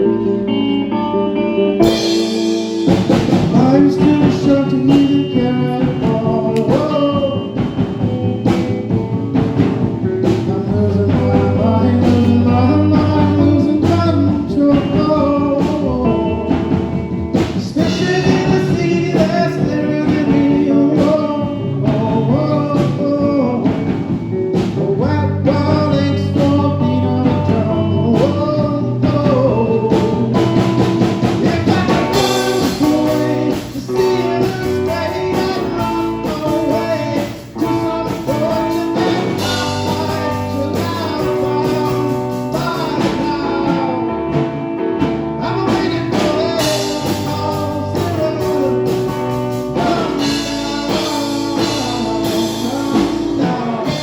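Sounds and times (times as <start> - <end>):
lead singer: 0.0 - 54.0
rock band playing live: 0.0 - 54.0.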